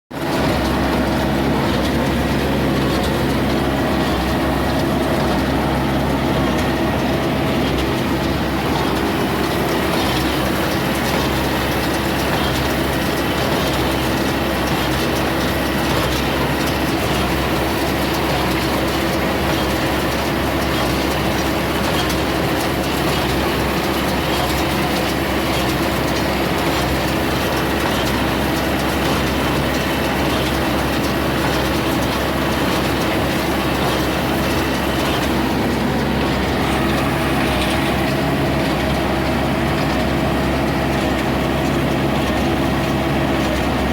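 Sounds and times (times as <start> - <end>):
hay baler mechanism running: 0.1 - 43.9
tractor engine under load: 0.1 - 43.9.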